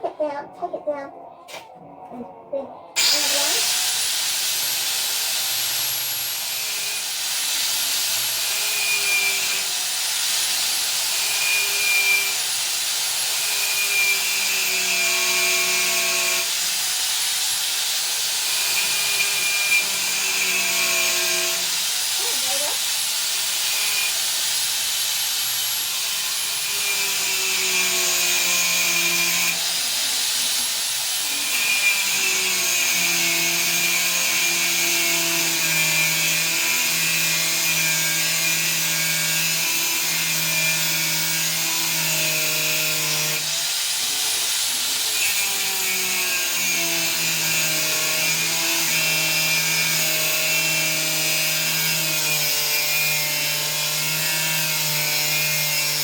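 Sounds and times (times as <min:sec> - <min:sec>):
angle grinder cutting steel: 0:03.0 - 0:56.0.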